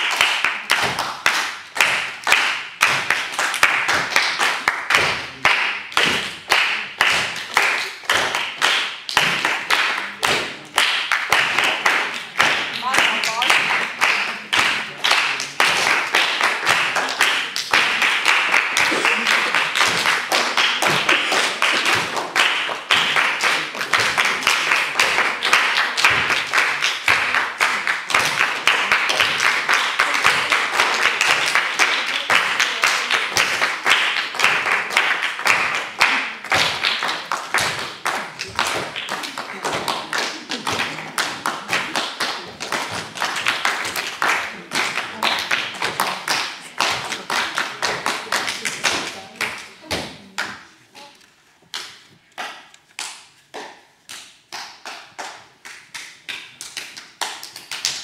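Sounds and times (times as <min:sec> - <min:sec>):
children clapping and tapping: 0:00.0 - 0:58.0.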